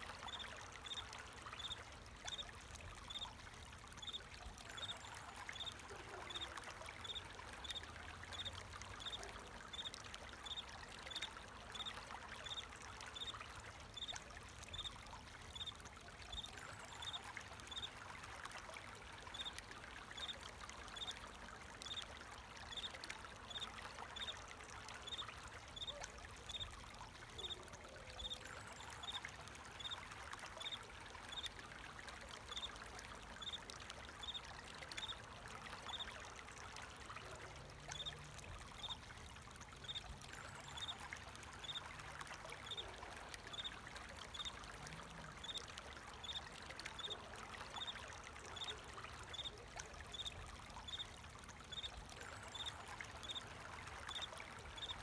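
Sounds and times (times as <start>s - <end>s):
water trickling and pouring: 0.0s - 55.0s.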